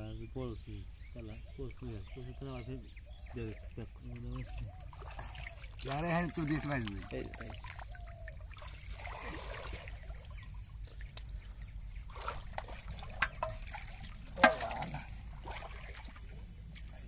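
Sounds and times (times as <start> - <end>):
water trickling and dripping: 3.2 - 17.0.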